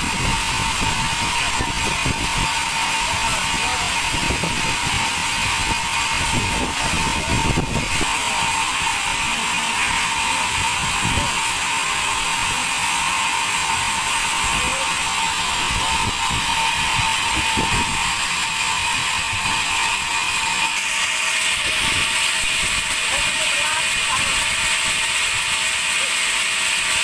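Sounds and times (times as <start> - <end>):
band saw hissing and whining: 0.0 - 27.0.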